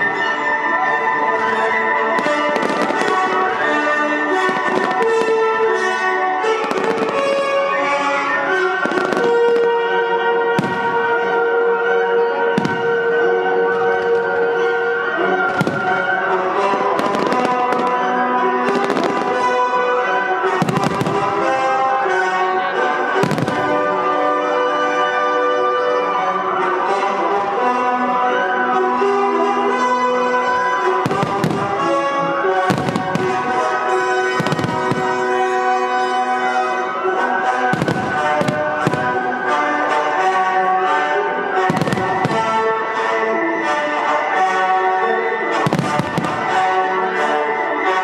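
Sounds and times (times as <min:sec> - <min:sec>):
orchestral music: 0:00.0 - 0:48.0.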